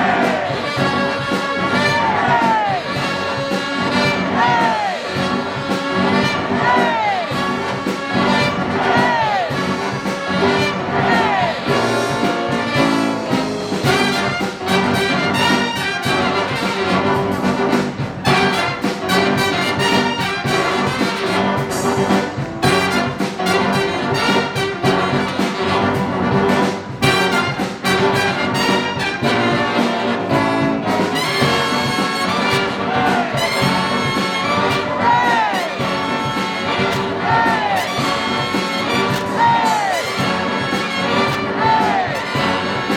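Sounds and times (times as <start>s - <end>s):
big band jazz brass: 0.0s - 42.9s.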